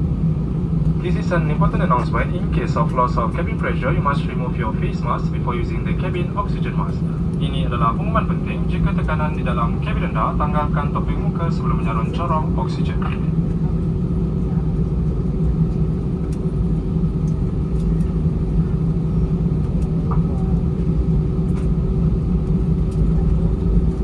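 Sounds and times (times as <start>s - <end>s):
aircraft cabin rumble: 0.0s - 24.0s
jet engines humming at idle: 0.0s - 24.0s.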